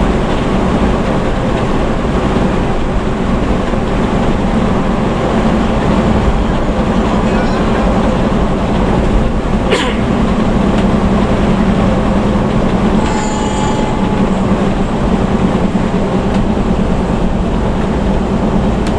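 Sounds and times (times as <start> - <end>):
bus engine running: 0.0 - 18.9
tyre and road noise: 0.0 - 18.9.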